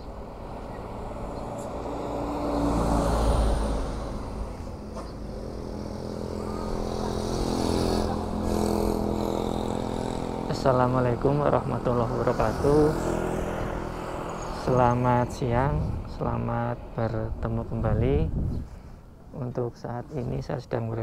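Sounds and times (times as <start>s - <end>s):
motor scooters passing: 0.0s - 18.0s
bus rumbling by: 0.0s - 19.1s
car passing: 0.0s - 19.2s
road traffic passing: 0.0s - 21.0s.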